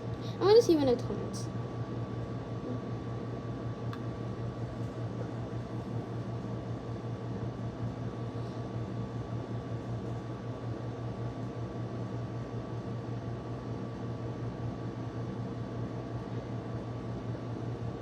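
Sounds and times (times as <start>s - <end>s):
fan humming with hiss: 0.0s - 18.0s.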